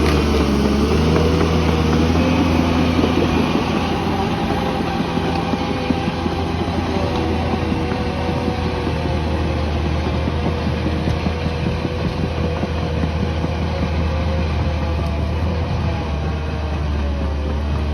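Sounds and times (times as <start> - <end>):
bulldozer diesel engine droning: 0.0 - 17.9.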